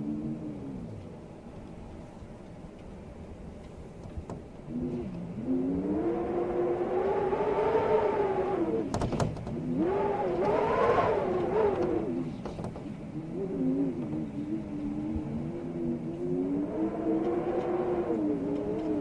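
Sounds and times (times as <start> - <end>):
storm wind howling: 0.0 - 19.0.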